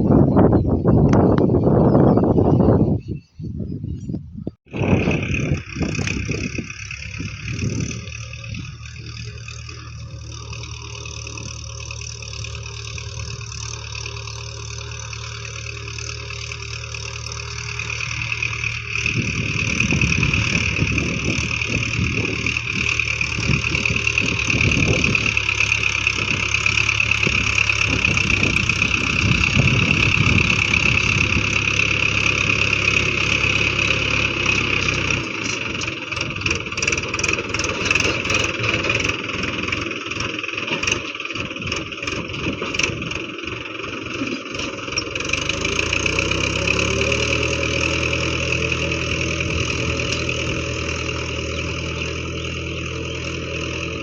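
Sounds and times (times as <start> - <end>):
tractor engine running: 4.6 - 54.0.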